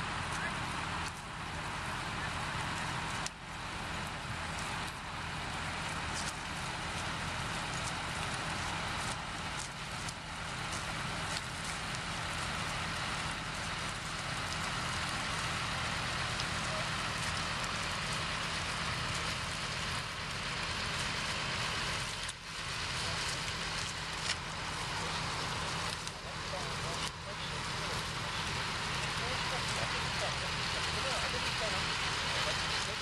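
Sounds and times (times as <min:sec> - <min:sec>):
tractor engine hum: 0:00.0 - 0:33.0.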